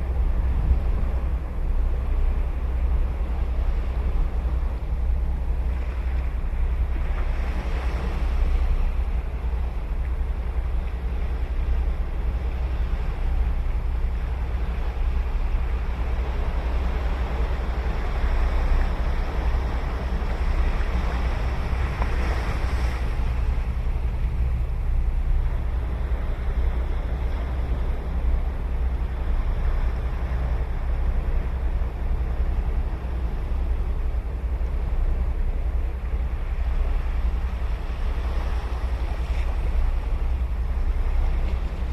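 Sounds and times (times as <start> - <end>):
wind rumble on microphone: 0.0 - 41.9
sea surf breaking: 2.0 - 41.9.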